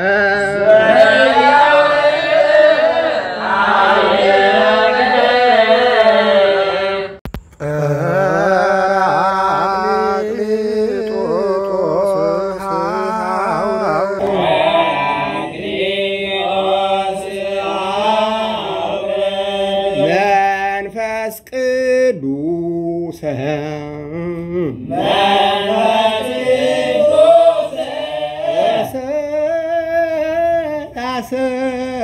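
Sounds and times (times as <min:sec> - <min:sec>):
man chanting a hymn: 0:00.0 - 0:04.8, 0:07.6 - 0:32.0.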